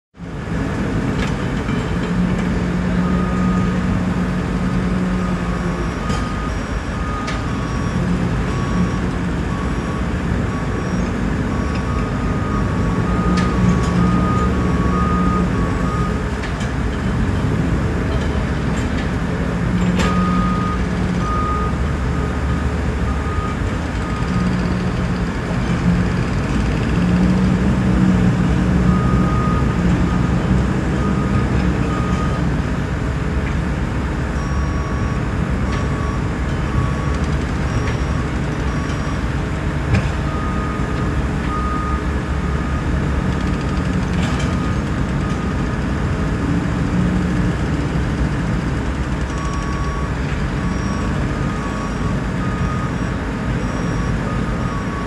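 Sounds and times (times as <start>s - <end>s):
heavy diesel machinery droning: 0.2s - 55.0s
reversing alarm beeping: 2.6s - 33.2s, 34.2s - 55.0s.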